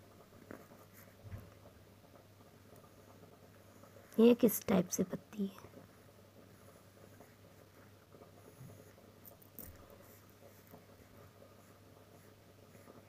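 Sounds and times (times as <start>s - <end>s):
pencil scratching on paper: 0.4s - 1.2s, 2.8s - 13.0s.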